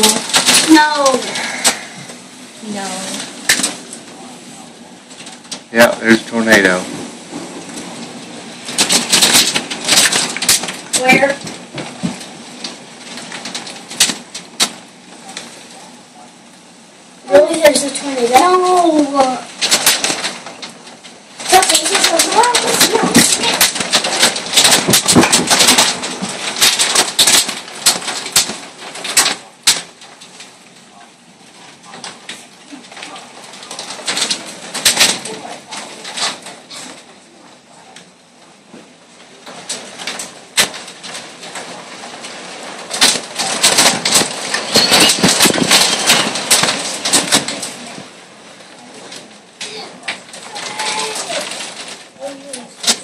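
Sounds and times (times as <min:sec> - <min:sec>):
hailstones pelting down: 0:00.0 - 0:53.0
sharp crack: 0:00.0 - 0:53.0.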